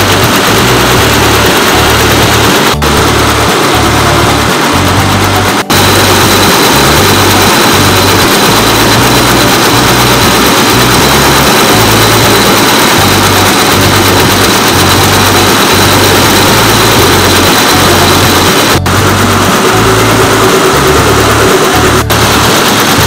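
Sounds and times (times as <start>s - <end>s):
quilting machine stitching: 0.0s - 23.0s.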